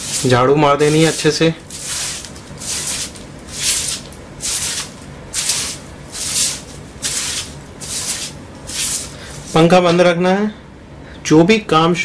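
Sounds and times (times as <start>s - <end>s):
broom brushing plaster wall: 0.0s - 9.8s.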